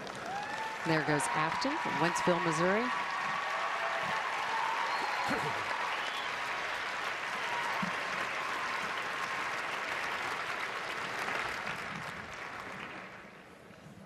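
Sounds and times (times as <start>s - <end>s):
crowd applauding: 0.0s - 13.6s.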